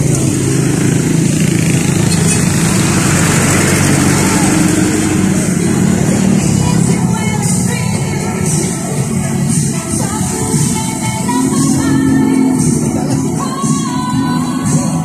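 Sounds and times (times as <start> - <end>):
motorcycle and truck engines: 0.0 - 15.0
voices: 0.0 - 15.0.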